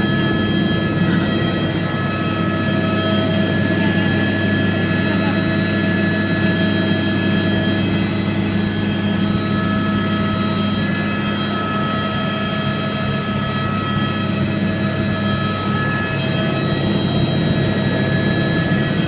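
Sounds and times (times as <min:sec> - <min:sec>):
helicopter engine and rotors droning: 0:00.0 - 0:19.0.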